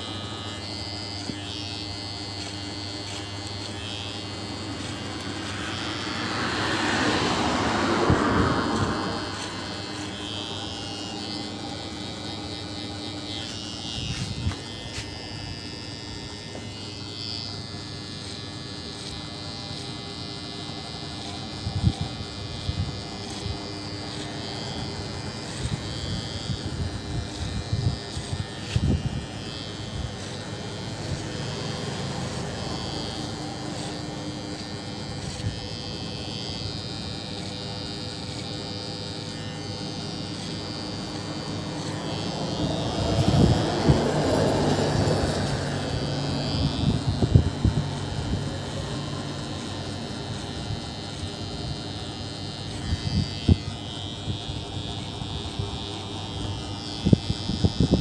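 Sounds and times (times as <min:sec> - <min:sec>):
electric hair trimmer buzzing: 0:00.0 - 0:58.0.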